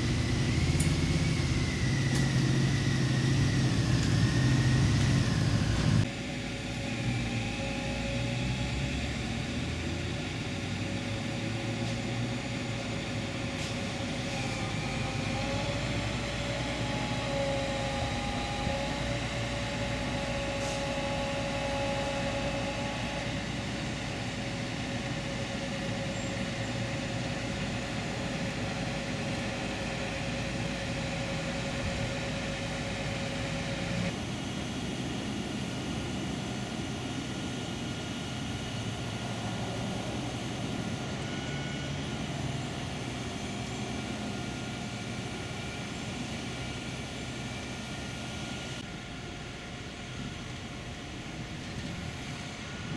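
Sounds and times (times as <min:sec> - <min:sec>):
steady whine: 0:00.0 - 0:52.9
truck engine drone: 0:00.0 - 0:52.9.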